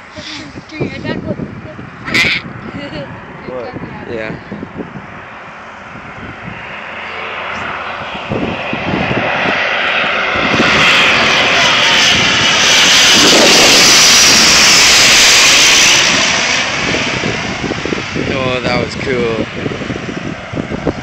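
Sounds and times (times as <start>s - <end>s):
airliner engine roar: 0.0s - 21.0s.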